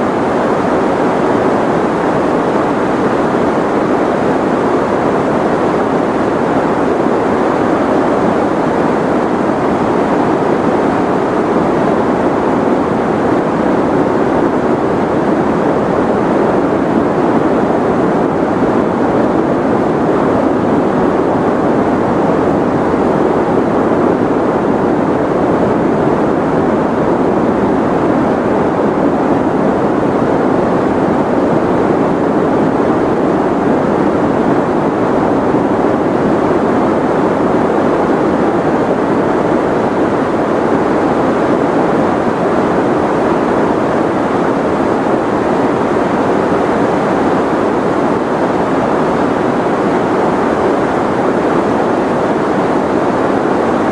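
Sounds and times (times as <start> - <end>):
white noise hiss: 0.0 - 53.9.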